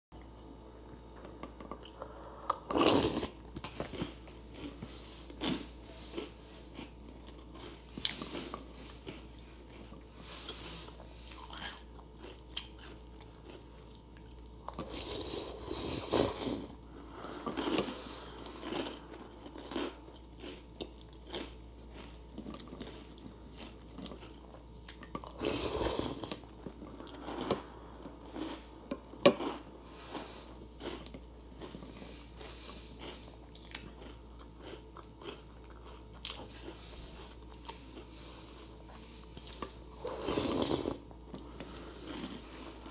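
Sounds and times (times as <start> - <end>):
person chewing and crunching food: 0.2 - 42.9.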